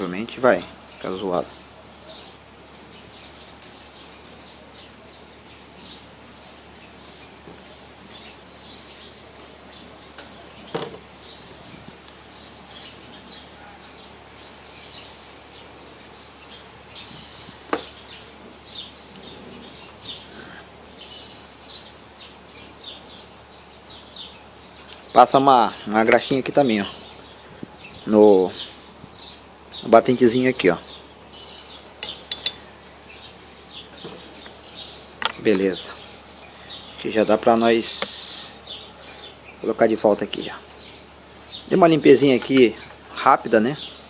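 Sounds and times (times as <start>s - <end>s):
low steady hiss: 0.0s - 44.0s
small birds chirping: 0.0s - 44.0s.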